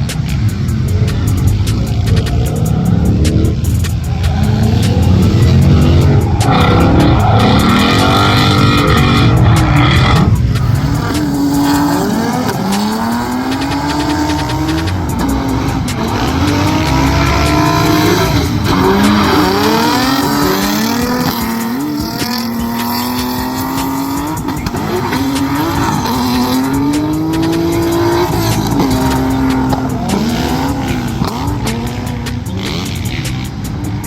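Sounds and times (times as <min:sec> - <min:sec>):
car engine revving hard: 0:00.0 - 0:34.0
tyres squealing: 0:00.0 - 0:34.0.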